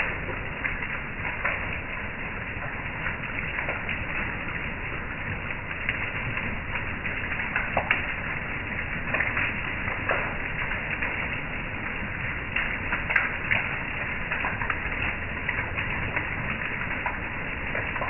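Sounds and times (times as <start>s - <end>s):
heavy rain hissing: 0.0s - 18.0s
sharp raindrop hits: 0.0s - 18.0s.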